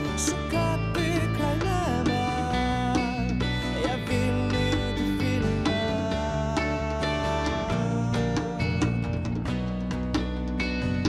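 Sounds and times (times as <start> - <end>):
bass guitar: 0.0 - 11.0
electric guitars: 0.0 - 11.0.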